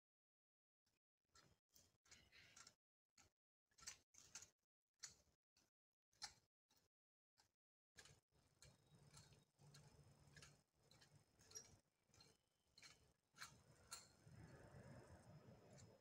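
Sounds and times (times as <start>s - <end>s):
faint irregular clicks and ticks: 1.3s - 16.0s.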